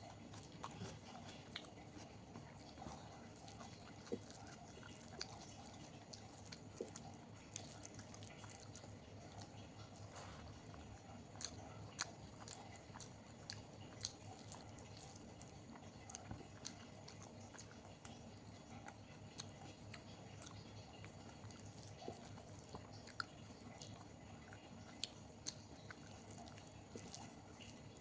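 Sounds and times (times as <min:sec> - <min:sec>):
close chewing with mouth clicks: 0:00.0 - 0:28.0.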